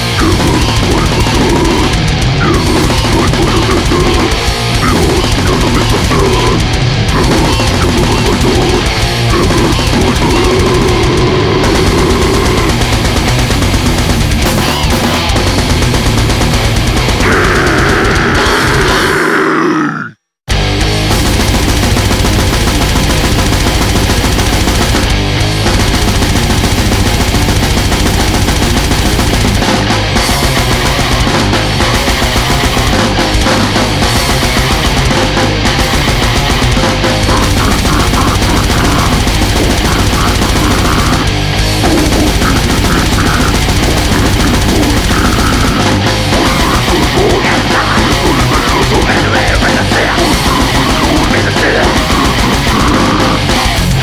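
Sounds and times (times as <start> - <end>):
bass guitar: 0.0 - 54.0
distorted guitars: 0.0 - 54.0
drums: 0.0 - 54.0.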